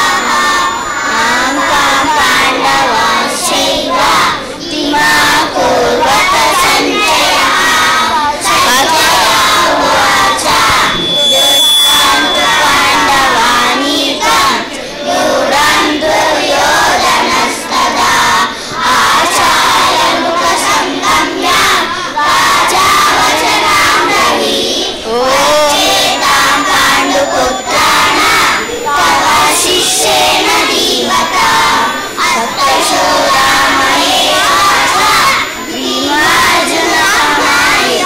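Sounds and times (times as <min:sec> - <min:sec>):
children chanting in unison: 0:00.0 - 0:38.0.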